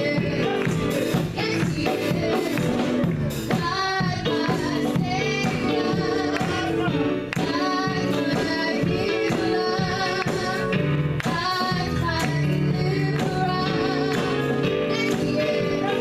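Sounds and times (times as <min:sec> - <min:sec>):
band accompaniment with steady beat: 0:00.0 - 0:16.0
women's choir singing gospel: 0:00.0 - 0:16.0.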